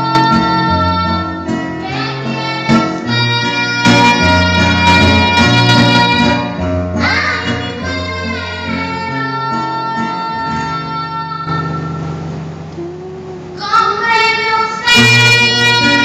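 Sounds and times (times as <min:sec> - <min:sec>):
woman singing: 0:00.0 - 0:12.0, 0:12.8 - 0:16.0
acoustic guitar: 0:00.0 - 0:16.0.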